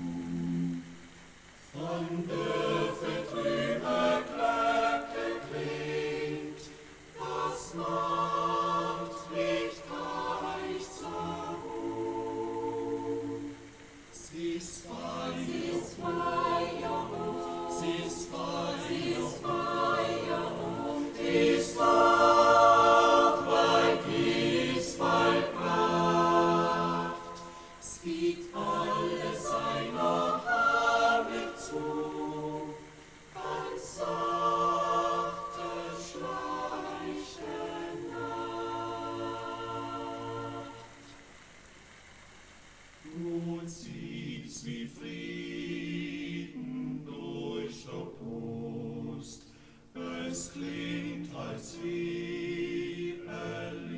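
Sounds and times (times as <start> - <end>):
choir singing unaccompanied: 0.0 - 42.0, 43.0 - 53.9.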